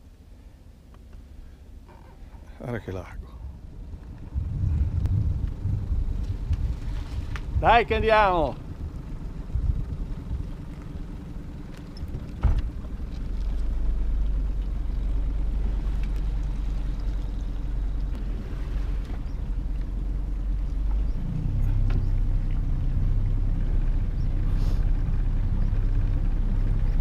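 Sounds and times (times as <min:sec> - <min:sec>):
outboard motor running: 0:01.4 - 0:27.0.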